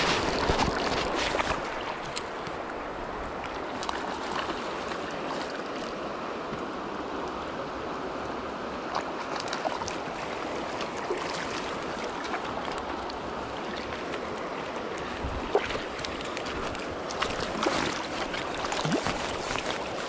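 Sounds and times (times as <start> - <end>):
small water splashes: 0.0 - 2.8, 3.4 - 6.0, 8.8 - 20.0
stream running over rocks: 0.0 - 20.0.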